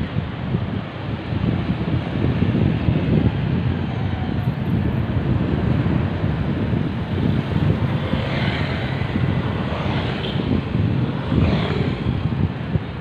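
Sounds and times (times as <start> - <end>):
road noise rush: 0.0 - 13.0
wind buffeting microphone: 0.0 - 13.0.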